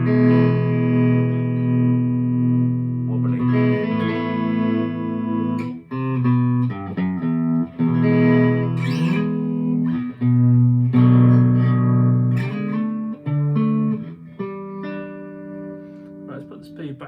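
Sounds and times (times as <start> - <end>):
electric guitar chords with tremolo: 0.0 - 17.0.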